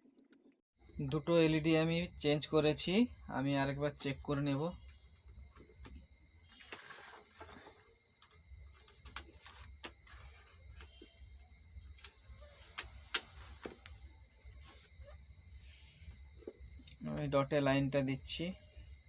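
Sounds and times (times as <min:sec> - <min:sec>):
crickets chirring: 0:00.8 - 0:19.0.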